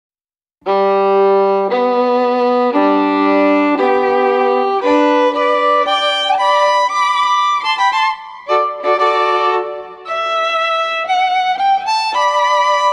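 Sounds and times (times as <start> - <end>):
solo violin melody: 0.6 - 12.9.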